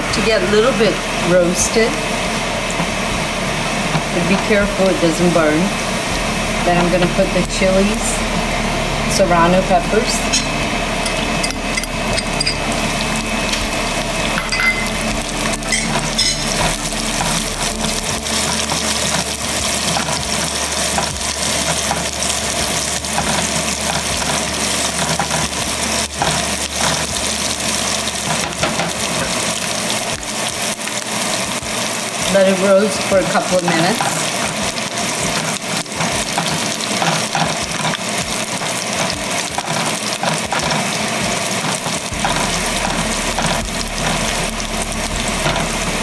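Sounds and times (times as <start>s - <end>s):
food sizzling in hot oil: 0.0s - 46.0s.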